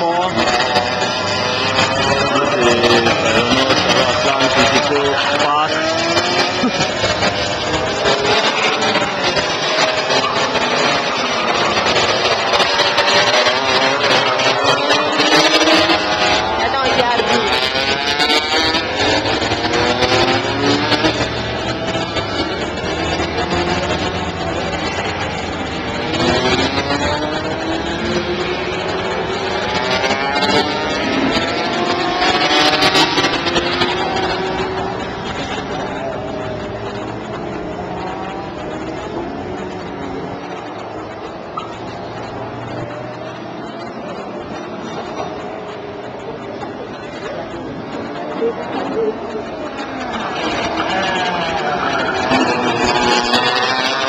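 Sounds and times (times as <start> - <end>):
kart engines buzzing: 0.0 - 54.0.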